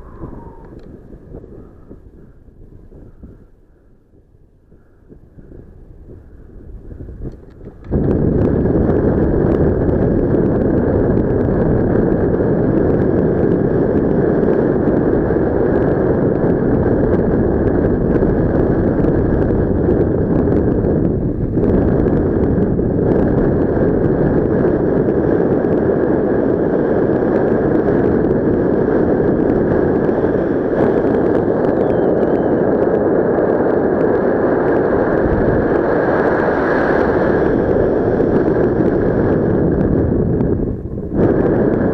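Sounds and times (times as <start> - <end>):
wind noise on microphone: 0.0 - 41.9.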